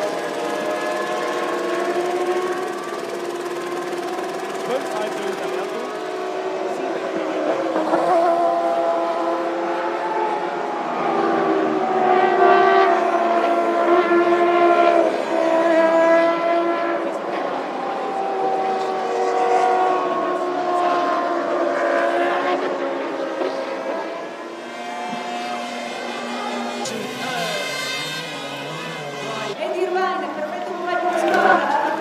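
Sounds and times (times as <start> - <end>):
racing car engines at high revs: 0.0 - 32.0.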